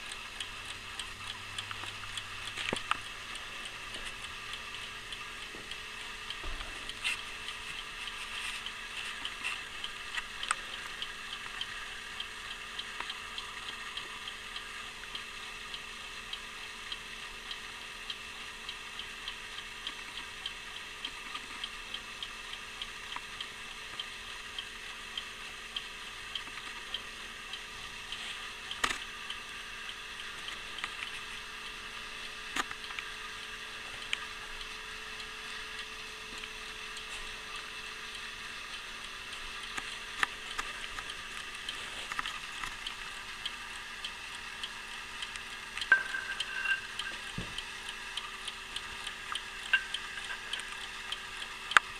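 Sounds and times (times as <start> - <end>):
alarm clock ticking: 0.0 - 51.9.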